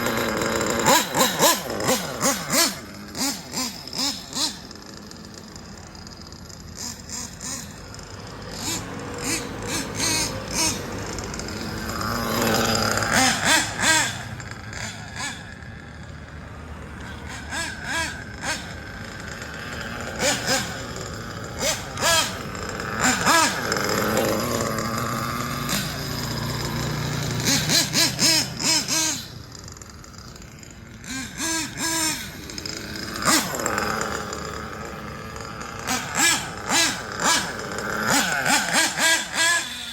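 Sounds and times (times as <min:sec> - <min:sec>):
model engine revving: 0:00.0 - 0:39.9.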